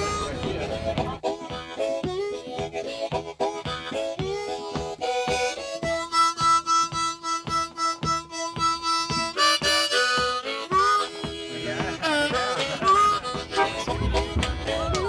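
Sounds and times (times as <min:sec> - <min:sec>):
harmonica long held notes: 0:00.0 - 0:15.0
steady beat: 0:00.0 - 0:15.0.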